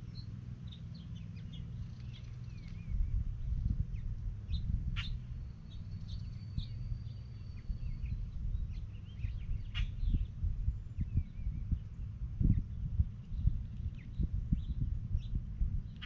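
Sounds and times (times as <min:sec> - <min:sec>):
songbirds chirping and whistling: 0:00.0 - 0:16.0
steady low rumble: 0:00.0 - 0:16.0.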